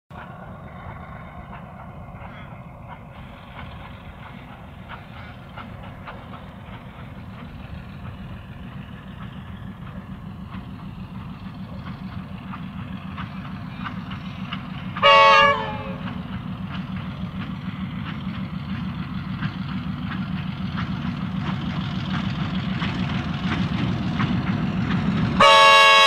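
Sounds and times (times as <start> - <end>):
distant locomotive engine rumble: 0.1 - 26.0.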